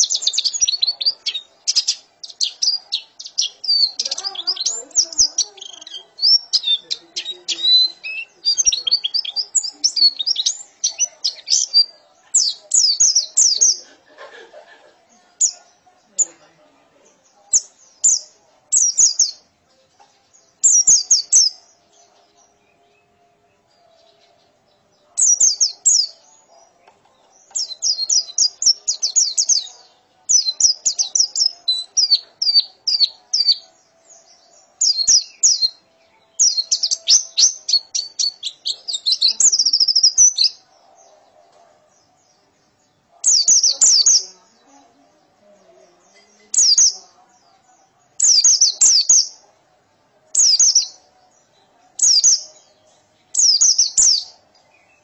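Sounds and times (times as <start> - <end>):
bird singing fast chattering song: 0.0 - 13.9, 15.3 - 16.4, 17.1 - 41.4, 42.1 - 44.9, 45.6 - 49.4, 50.3 - 55.0.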